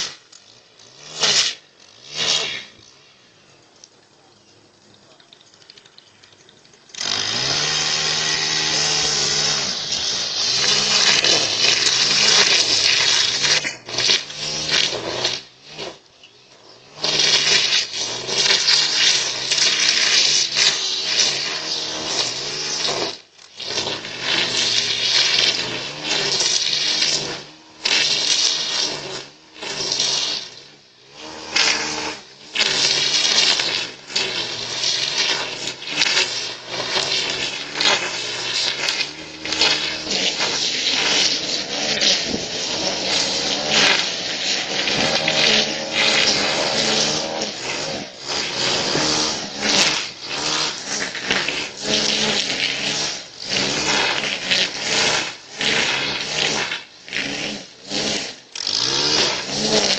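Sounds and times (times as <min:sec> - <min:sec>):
leaf blower revving: 0:00.0 - 0:59.9.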